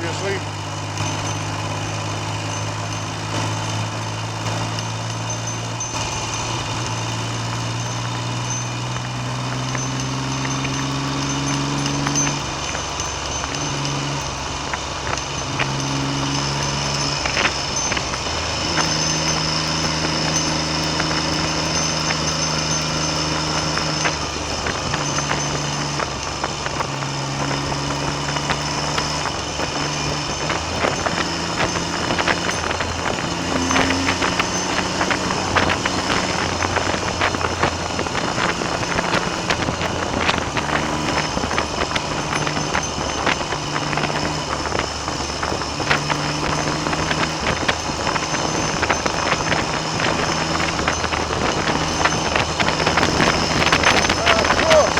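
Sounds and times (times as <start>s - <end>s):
motorcycle engine accelerating: 0.0s - 54.9s
wind buffeting microphone: 0.0s - 54.9s.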